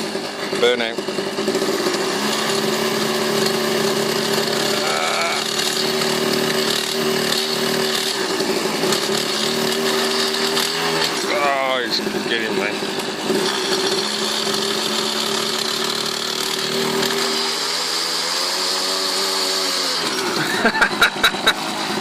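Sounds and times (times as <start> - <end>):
small two-stroke engine at high throttle: 0.0 - 22.0.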